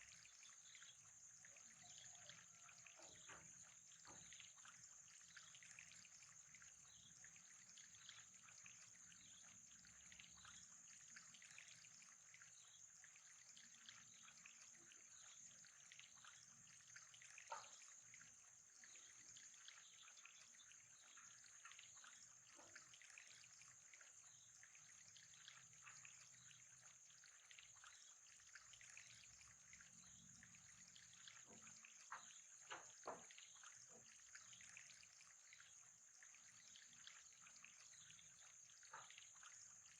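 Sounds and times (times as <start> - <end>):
faint trickling water: 0.0 - 39.9
water drips plinking: 0.0 - 39.9.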